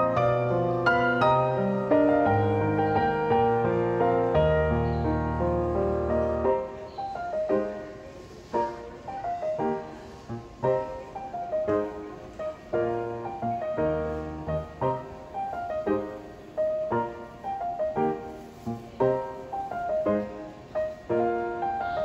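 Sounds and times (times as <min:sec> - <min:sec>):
gentle piano piece: 0:00.0 - 0:22.0.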